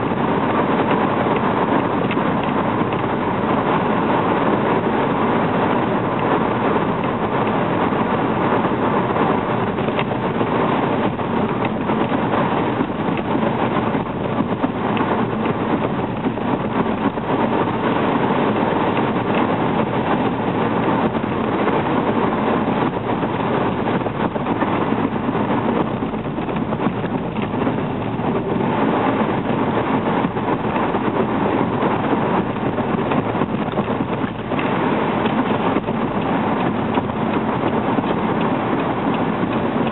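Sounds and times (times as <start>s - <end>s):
car engine hum: 0.0s - 39.9s
tyre and wind noise: 0.0s - 39.9s.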